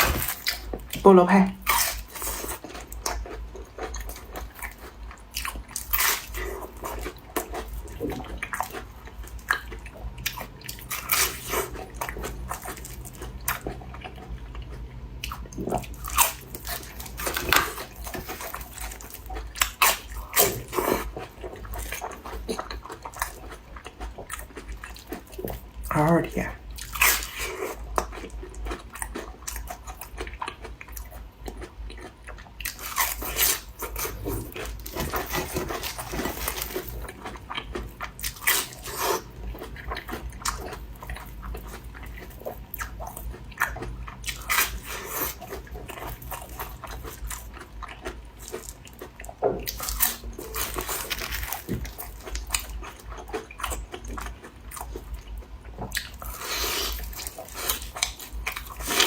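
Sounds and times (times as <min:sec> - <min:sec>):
person chewing crunchy food: 0:00.0 - 0:01.0, 0:01.6 - 0:59.0.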